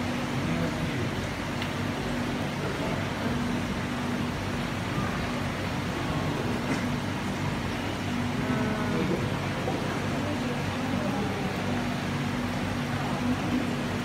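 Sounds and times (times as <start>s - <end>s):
aquarium pumps humming: 0.0s - 14.0s.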